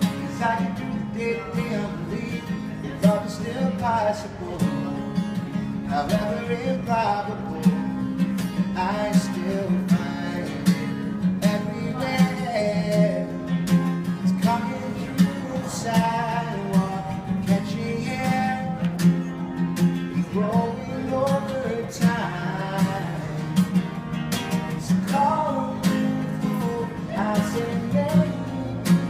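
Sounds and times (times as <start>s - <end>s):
man singing wordless melody: 0.0s - 19.0s, 20.1s - 24.0s, 24.7s - 29.0s
acoustic guitar strumming: 0.0s - 29.0s.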